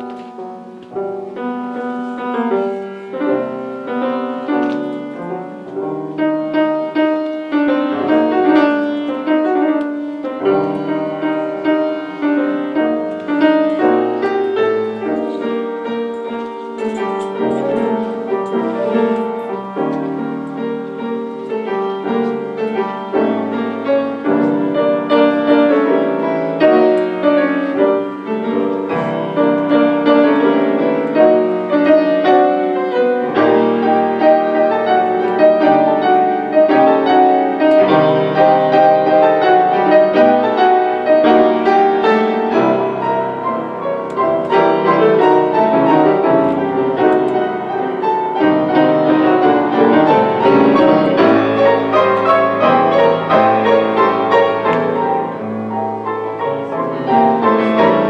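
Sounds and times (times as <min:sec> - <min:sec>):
piano duet: 0:00.0 - 0:58.0.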